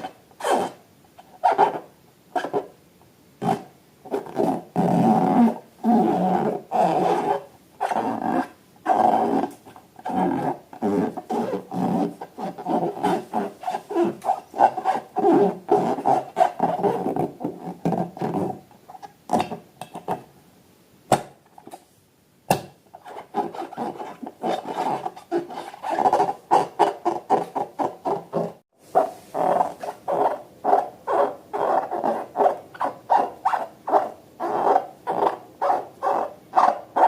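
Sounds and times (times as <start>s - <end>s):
balloons squeaking when rubbed: 0.0s - 2.8s, 3.4s - 19.2s, 22.9s - 37.0s.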